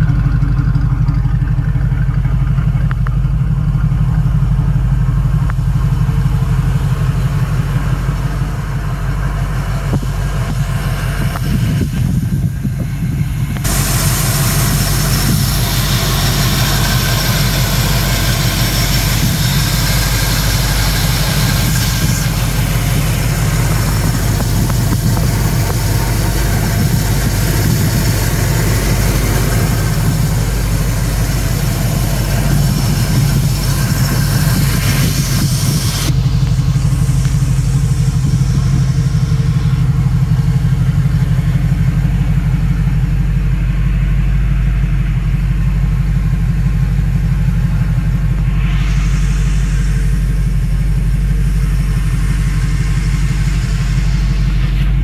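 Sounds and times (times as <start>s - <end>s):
car engine idling: 0.0s - 55.0s
higher hiss: 5.4s - 55.0s.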